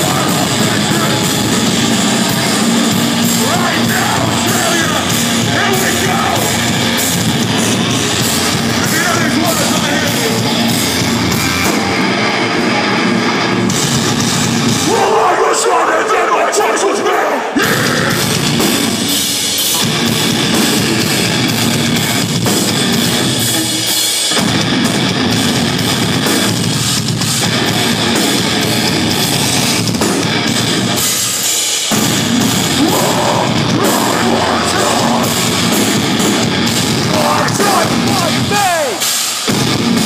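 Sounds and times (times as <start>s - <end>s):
bass guitar: 0.0s - 15.0s, 17.6s - 40.0s
pounding drum kit: 0.0s - 15.9s, 17.0s - 40.0s
distorted electric guitars: 0.0s - 16.1s, 16.8s - 40.0s.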